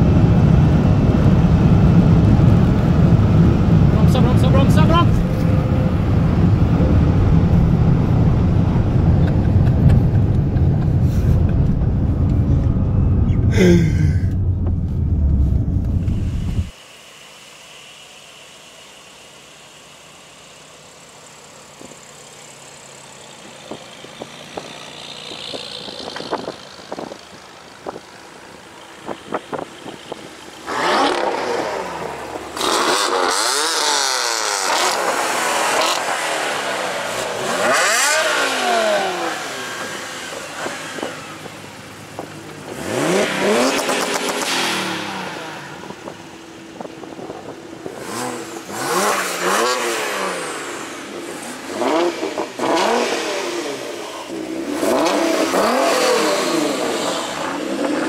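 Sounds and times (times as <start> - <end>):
cars revving and accelerating: 0.0 - 16.7, 22.8 - 58.0
loud car engine: 0.0 - 58.0.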